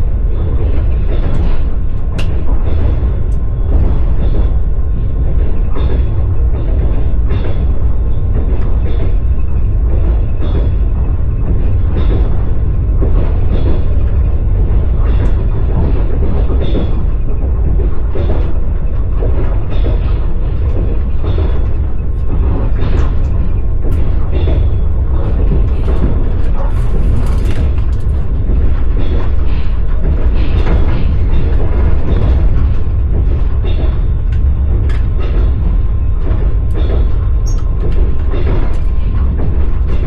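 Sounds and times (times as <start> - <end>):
rumble of moving train: 0.0 - 40.0
train wheels clacking over rail joints: 0.0 - 40.0.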